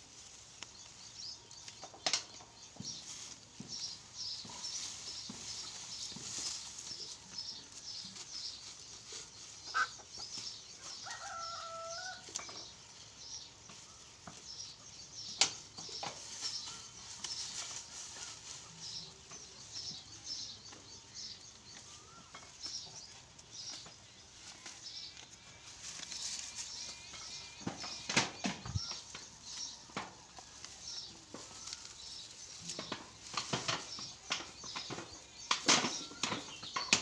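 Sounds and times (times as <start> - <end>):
small birds chirping: 0.6 - 37.0.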